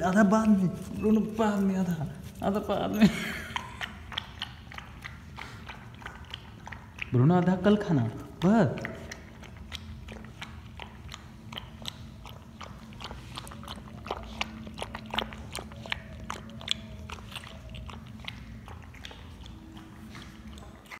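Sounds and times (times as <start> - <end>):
puppy lapping and chewing: 0.0 - 20.9.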